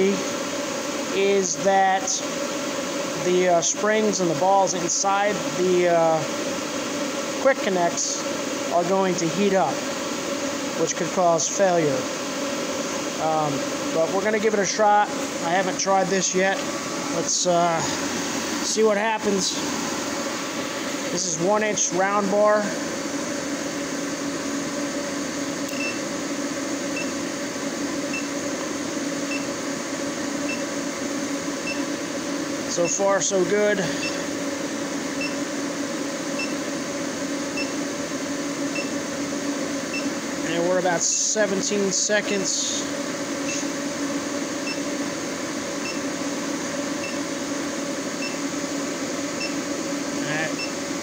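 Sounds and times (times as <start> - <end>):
induction forge humming: 0.0 - 51.0.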